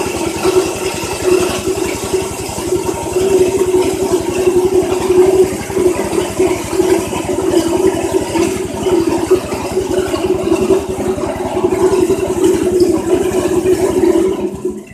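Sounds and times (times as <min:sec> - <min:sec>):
dehulling machine pulsing hum: 0:00.0 - 0:14.9.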